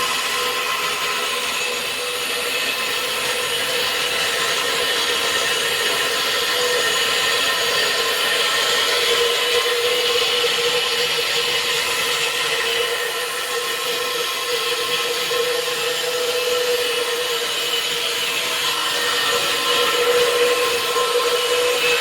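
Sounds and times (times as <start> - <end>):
core cutting machine grinding: 0.0 - 22.0.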